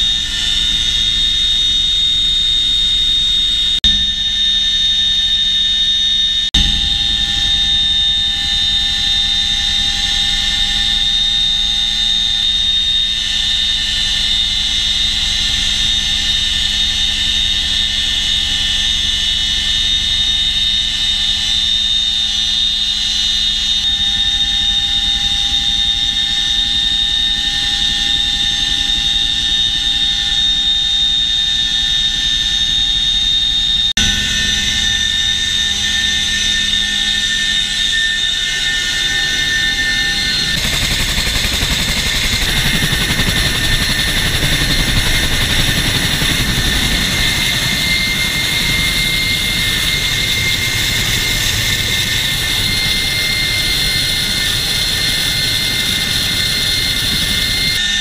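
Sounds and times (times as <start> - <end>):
low rotor rumble: 0.0 - 57.9
helicopter engine whine: 0.0 - 58.0.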